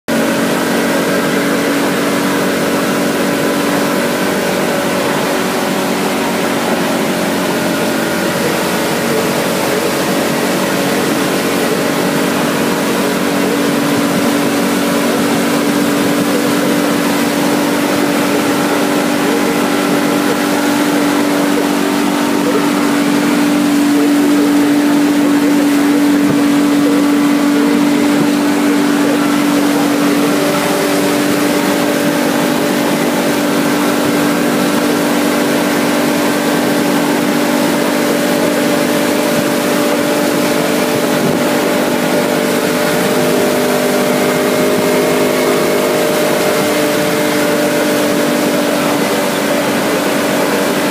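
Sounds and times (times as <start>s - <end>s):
outboard motor running: 0.0s - 50.9s
water rushing along hull: 0.0s - 50.9s.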